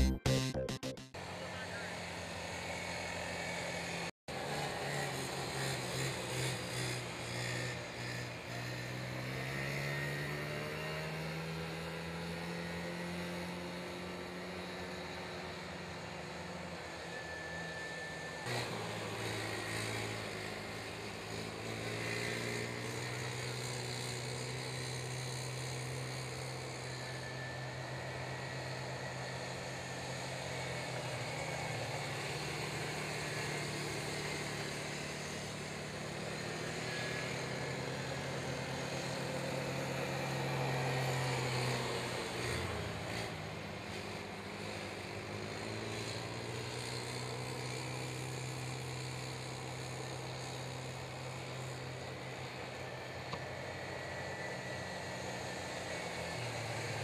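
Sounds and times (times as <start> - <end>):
atv engines revving: 2.4 - 17.0, 18.4 - 57.0.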